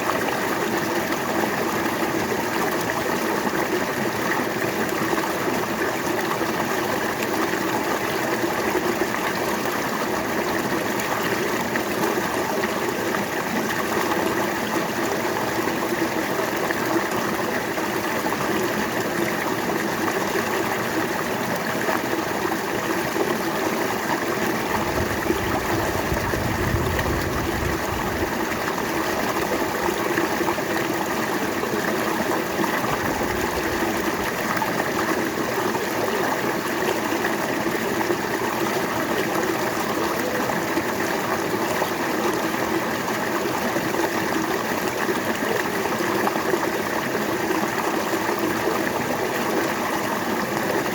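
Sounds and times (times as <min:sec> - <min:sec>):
river water flowing: 0:00.0 - 0:50.9.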